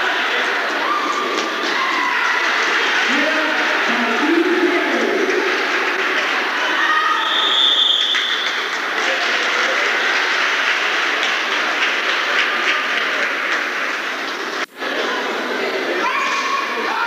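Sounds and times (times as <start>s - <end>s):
crowd noise in gym: 0.0s - 17.0s.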